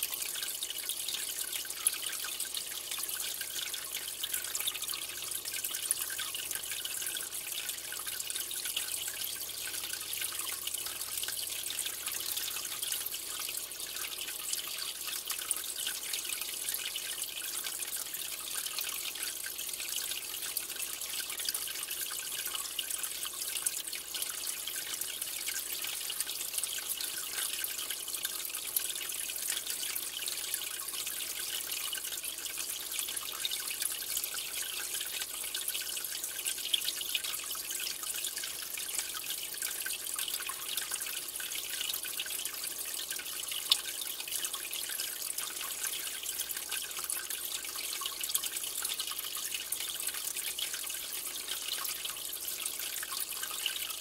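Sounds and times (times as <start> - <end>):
water trickling in fish tank: 0.0 - 54.0.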